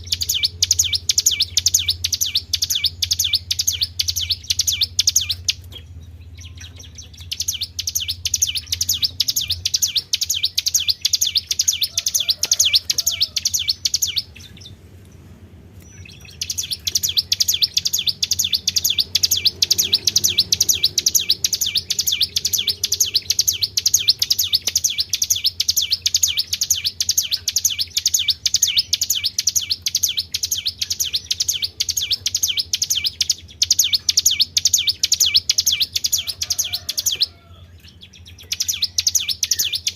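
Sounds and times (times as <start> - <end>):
faint low hum: 0.0 - 39.9
songbird chirping trill: 0.0 - 39.9.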